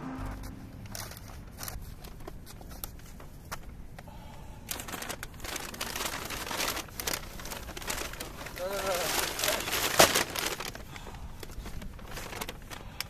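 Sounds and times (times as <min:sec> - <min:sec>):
paper bags crinkling and rustling: 0:00.8 - 0:13.0.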